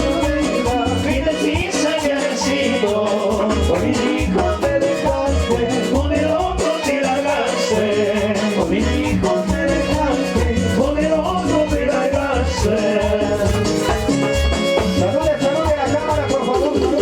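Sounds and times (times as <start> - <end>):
bass beat: 0.0 - 17.0
latin dance band music: 0.0 - 17.0
shaker percussion: 0.0 - 17.0.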